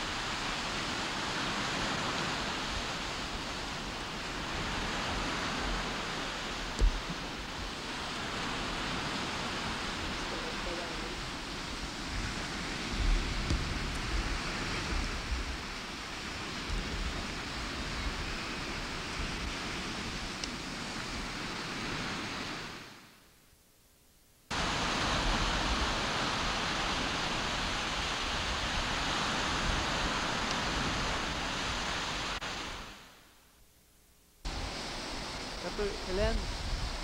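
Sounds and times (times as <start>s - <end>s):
wind buffeting microphone: 0.0s - 22.8s, 24.5s - 32.9s, 34.5s - 37.0s
lake waves on shore: 0.0s - 23.2s, 24.5s - 33.3s, 34.4s - 37.0s.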